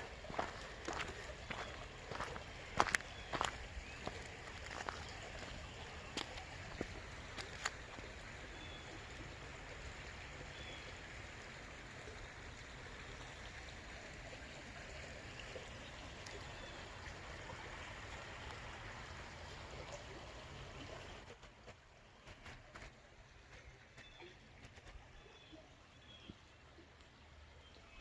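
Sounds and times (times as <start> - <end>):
creek water flowing: 0.0 - 28.0.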